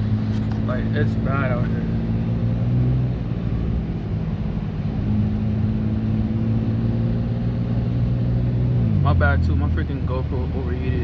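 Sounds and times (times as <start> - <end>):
car engine cruising drone: 0.0 - 11.0.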